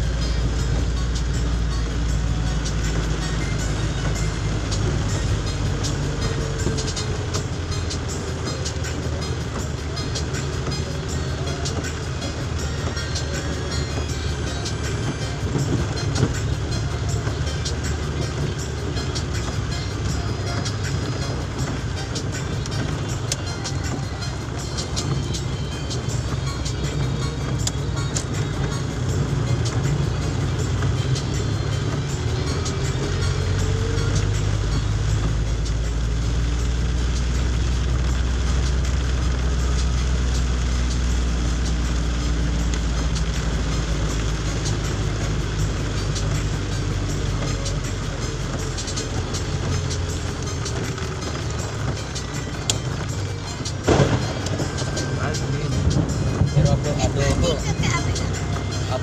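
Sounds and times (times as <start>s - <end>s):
car driving on wet road: 0.0s - 59.0s
raindrops ticking: 0.0s - 59.0s
vehicle rumbling: 0.0s - 59.0s.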